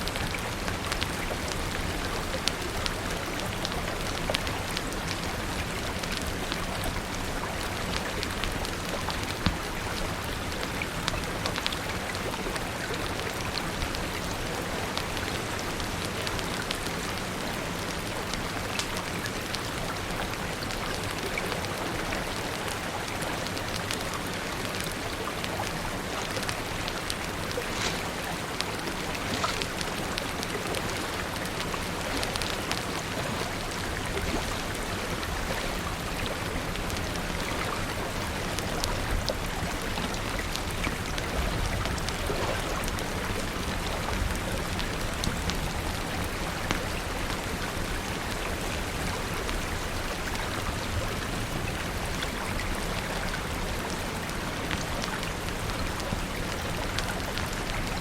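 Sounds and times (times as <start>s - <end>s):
wood fire crackling: 0.0s - 50.2s
steady rain falling: 0.0s - 58.0s.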